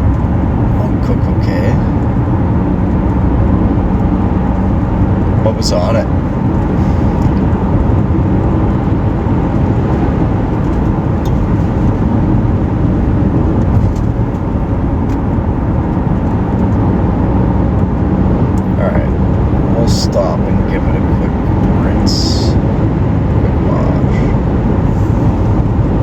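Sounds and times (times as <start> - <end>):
car cabin road and engine noise: 0.0 - 26.0.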